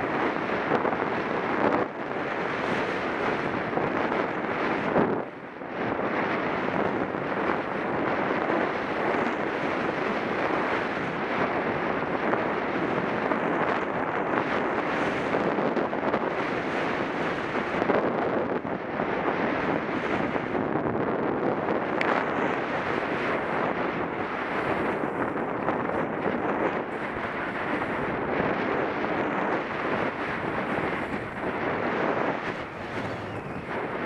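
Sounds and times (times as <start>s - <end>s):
wind noise on microphone: 0.0s - 34.0s.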